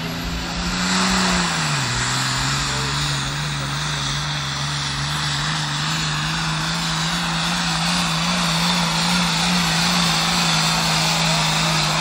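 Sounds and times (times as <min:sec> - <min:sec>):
tractor engine running hard: 0:00.0 - 0:12.0.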